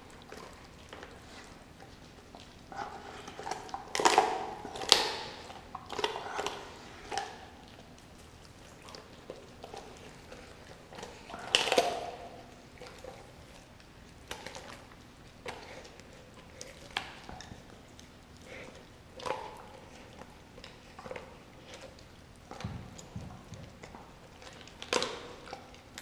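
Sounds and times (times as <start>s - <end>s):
dog chewing and tearing meat: 0.0s - 26.0s.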